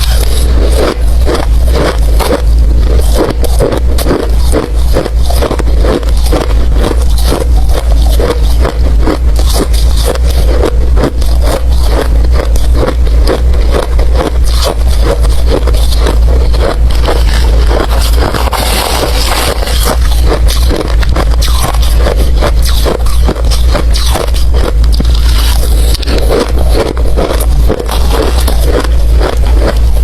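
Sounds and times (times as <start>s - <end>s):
ice crunching being chewed: 0.0s - 30.0s.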